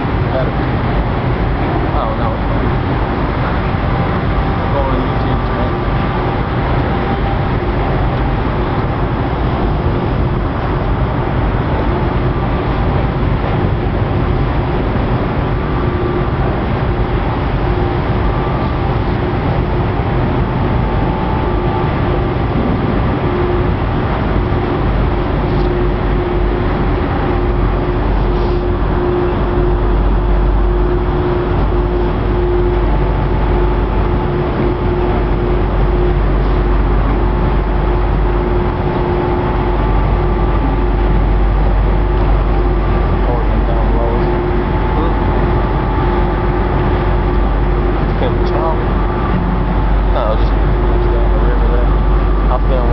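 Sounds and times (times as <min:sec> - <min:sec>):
boat diesel engines droning: 0:00.0 - 0:52.9.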